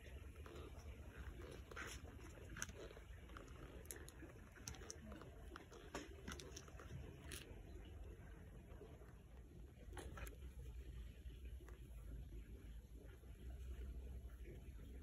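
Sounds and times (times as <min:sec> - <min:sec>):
faint low rumble: 0:00.0 - 0:15.0.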